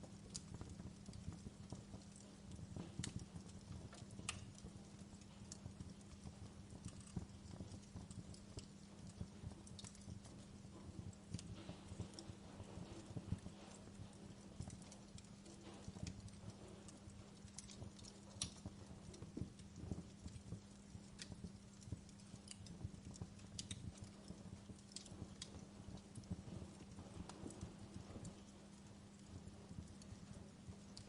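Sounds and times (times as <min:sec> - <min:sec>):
faint low hum: 0:00.0 - 0:31.0
wood fire crackling quietly: 0:00.0 - 0:31.0.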